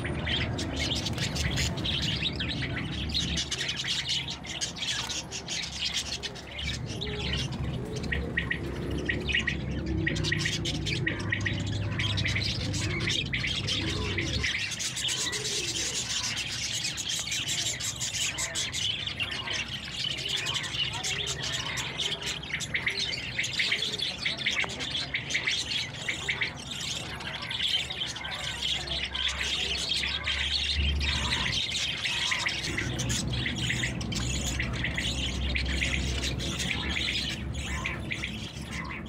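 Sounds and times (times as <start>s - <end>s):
budgerigars chattering and chirping: 0.0s - 39.0s.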